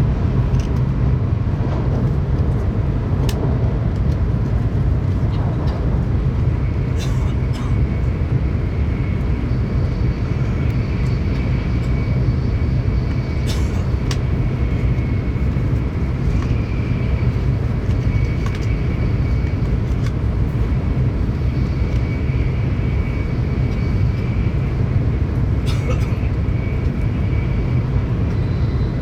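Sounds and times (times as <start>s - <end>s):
train running at speed: 0.0s - 29.0s.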